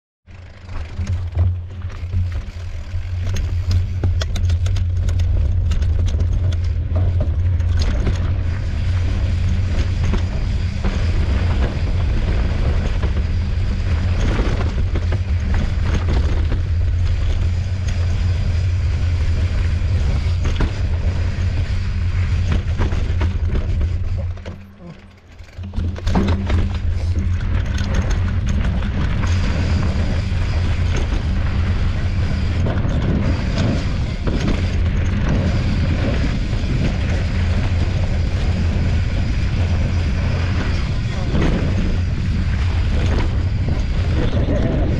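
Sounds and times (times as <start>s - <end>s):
bike rattling and clattering: 0.3s - 44.9s
steady low rumble: 0.3s - 44.9s.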